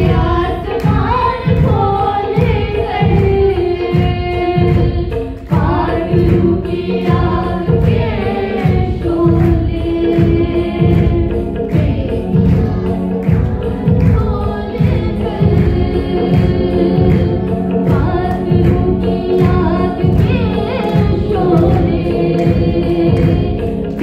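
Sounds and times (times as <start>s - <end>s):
backing singers: 0.0s - 24.0s
electronic keyboard chords: 0.0s - 24.0s
steady beat: 0.0s - 24.0s
woman singing lead: 0.0s - 24.0s.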